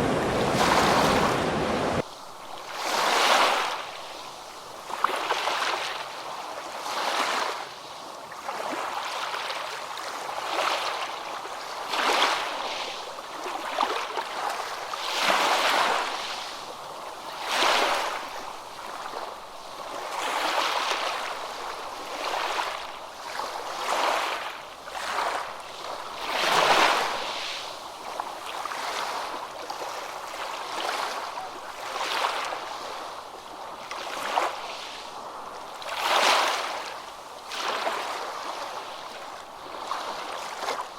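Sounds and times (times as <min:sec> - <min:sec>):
ocean waves breaking: 0:00.0 - 0:06.2, 0:11.7 - 0:40.9.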